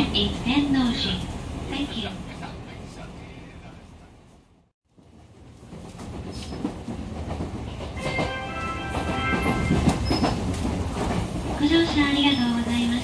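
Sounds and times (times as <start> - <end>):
train rumble from inside car: 0.0 - 13.0.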